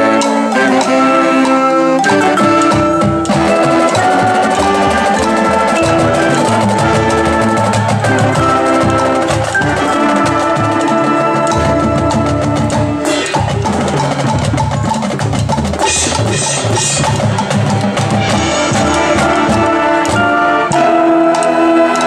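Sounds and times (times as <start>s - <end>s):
brass and saxophones playing: 0.0s - 15.0s, 15.7s - 22.0s
drumline with bass drums: 0.0s - 22.0s.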